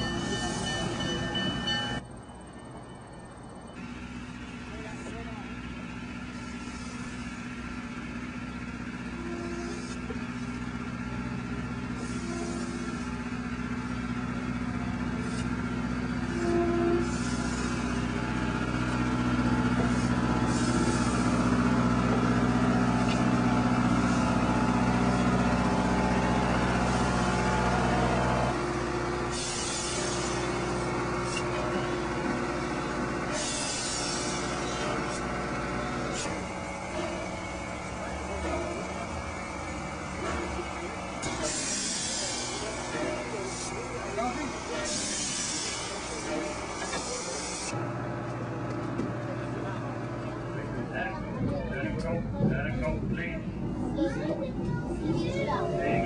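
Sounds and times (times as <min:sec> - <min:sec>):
train engine running: 0:00.0 - 0:56.0.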